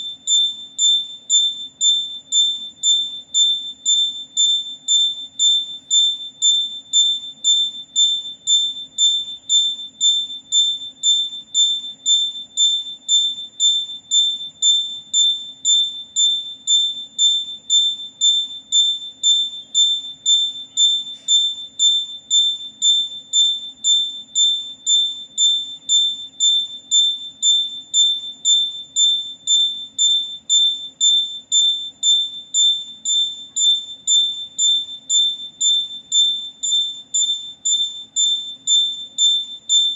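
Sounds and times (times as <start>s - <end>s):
electronic buzzer beeping: 0.0s - 39.9s.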